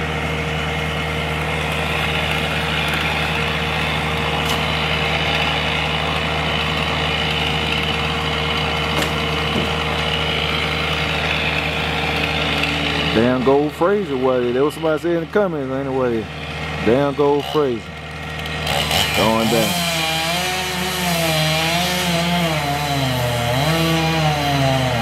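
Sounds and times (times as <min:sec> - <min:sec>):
engine droning steadily: 0:00.0 - 0:23.7.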